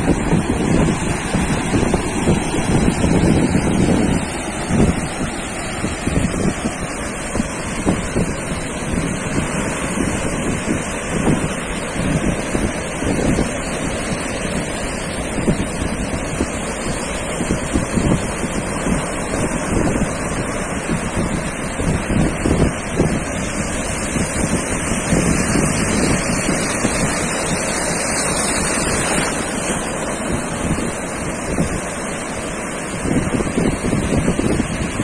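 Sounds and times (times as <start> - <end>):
ocean surf on sandy beach: 0.0 - 35.0
wind buffeting microphone: 0.0 - 35.0.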